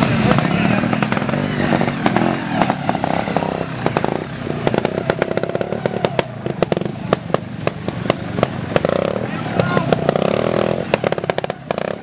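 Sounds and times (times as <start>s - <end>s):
motorcycle engine popping: 0.0s - 12.0s.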